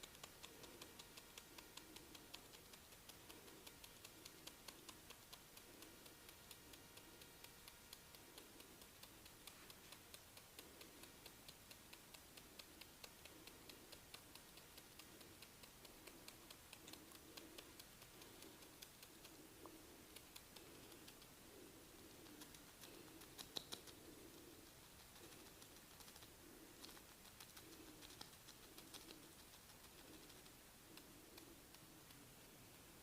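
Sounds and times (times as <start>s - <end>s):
rhythmic rubbing of hair: 0.0s - 33.0s
soft clicks: 0.0s - 33.0s.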